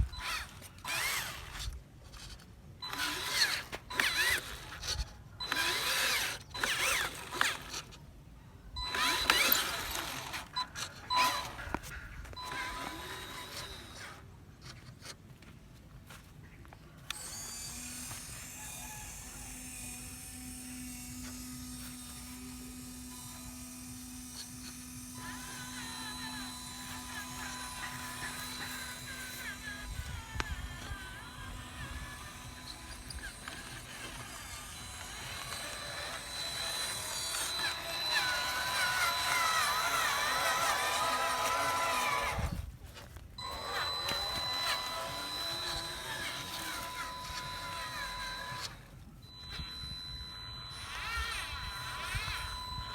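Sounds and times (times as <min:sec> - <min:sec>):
small electric motor whirring: 0:00.0 - 0:08.1, 0:08.7 - 0:15.5, 0:17.0 - 0:52.9.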